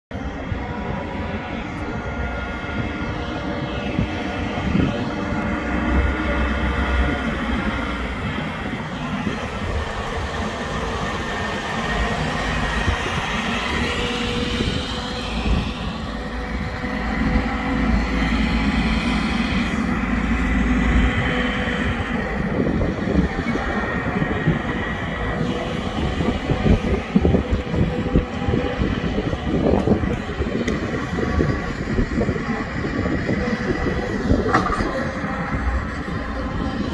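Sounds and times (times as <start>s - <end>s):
diesel engine running: 0.1s - 36.9s
steady whine: 0.1s - 36.9s.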